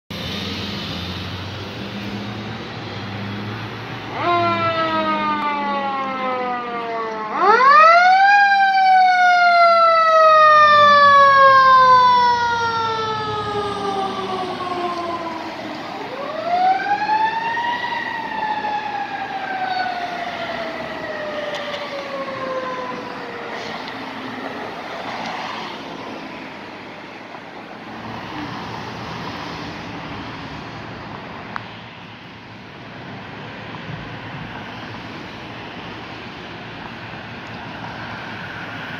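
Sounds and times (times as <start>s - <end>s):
passing traffic: 0.1s - 38.9s
fire truck siren: 0.2s - 38.9s.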